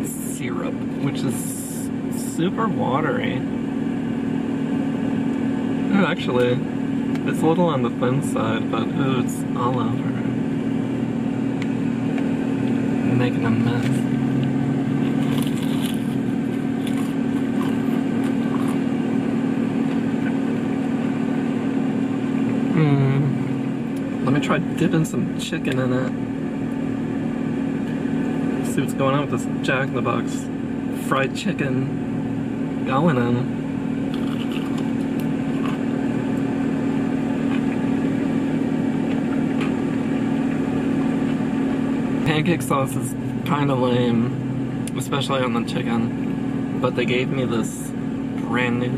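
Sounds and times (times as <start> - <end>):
car engine idling: 0.0 - 48.9
low mechanical hum: 0.0 - 48.9.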